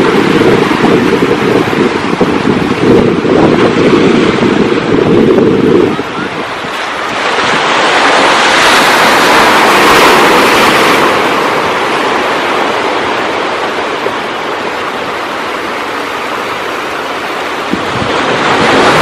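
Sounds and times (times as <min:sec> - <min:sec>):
ocean wave breaking: 0:00.0 - 0:19.0.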